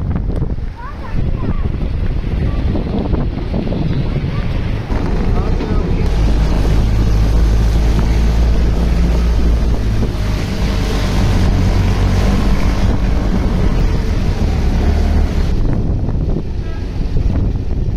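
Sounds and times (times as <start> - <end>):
wind rumble on microphone: 0.0 - 17.9.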